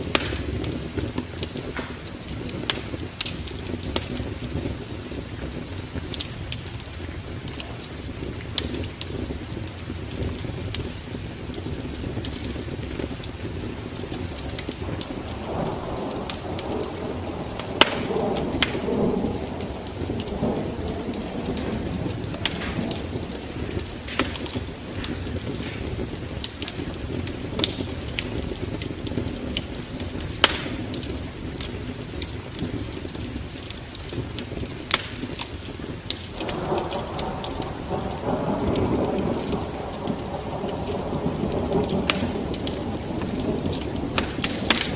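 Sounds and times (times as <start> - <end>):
low thunder rumble: 0.0 - 44.9
steady rain: 0.0 - 44.9
wood fire crackling: 0.0 - 44.9.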